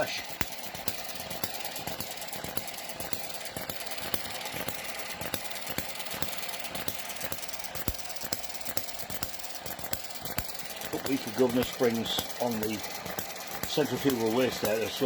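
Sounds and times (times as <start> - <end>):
small engine clattering: 0.0 - 15.0
sharp engine pops: 0.3 - 15.0.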